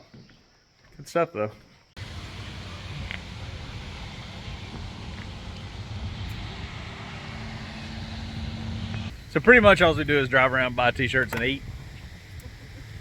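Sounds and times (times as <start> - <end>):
vehicle engine and road noise: 2.0 - 13.0.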